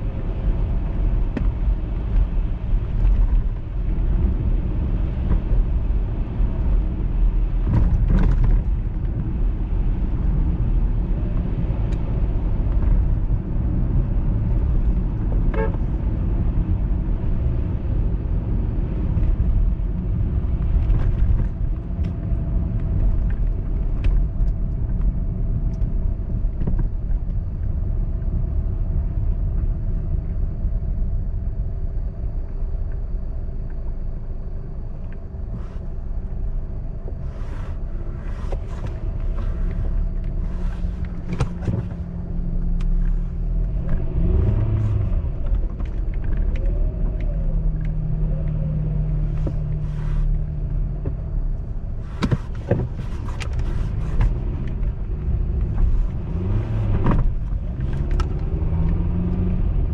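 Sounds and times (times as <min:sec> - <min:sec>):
engine and tyres rumbling: 0:00.0 - 0:59.9.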